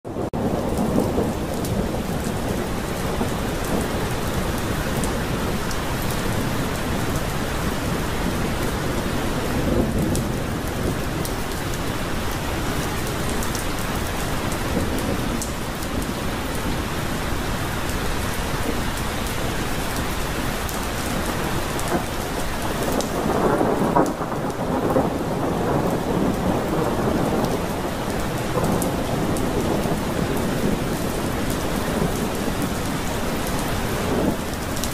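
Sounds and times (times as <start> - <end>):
heavy rain falling: 0.1 - 34.9
thunder rumbling: 0.1 - 34.9.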